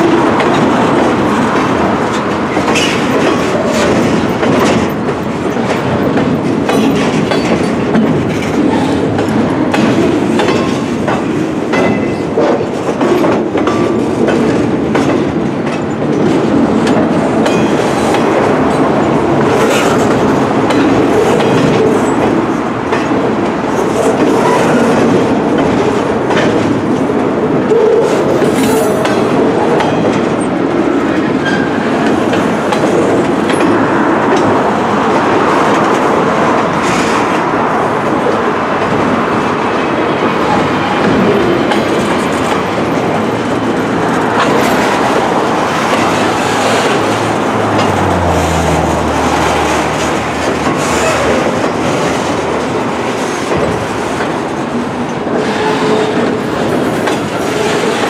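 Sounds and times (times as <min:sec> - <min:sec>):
clickety-clack over rail joints: 0:00.0 - 0:58.0
freight train wheels rumbling: 0:00.0 - 0:58.0.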